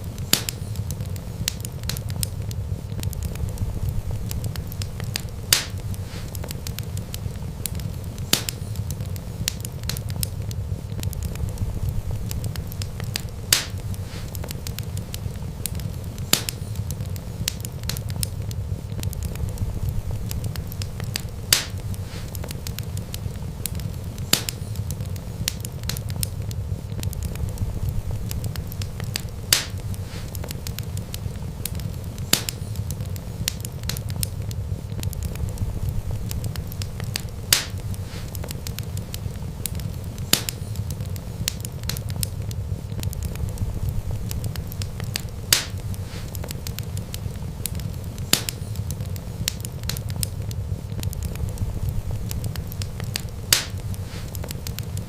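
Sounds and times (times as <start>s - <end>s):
fire popping: 0.0s - 55.0s
low rumble of flames: 0.0s - 55.0s
wood fire crackling: 0.0s - 55.0s.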